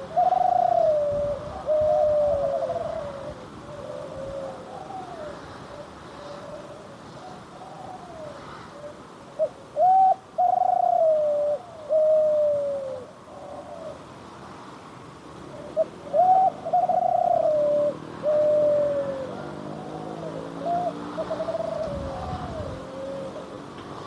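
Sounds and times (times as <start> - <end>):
dove cooing: 0.0 - 14.1, 15.4 - 23.8.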